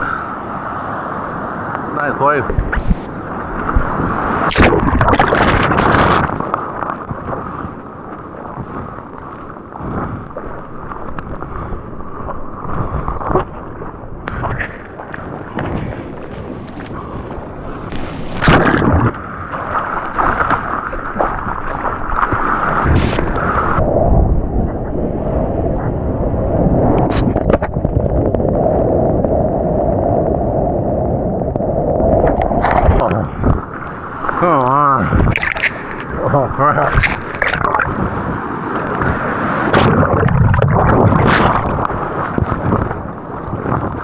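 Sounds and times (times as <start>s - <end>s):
ocean water sloshing and splashing: 0.0s - 44.0s
wind buffeting microphone: 0.0s - 44.0s.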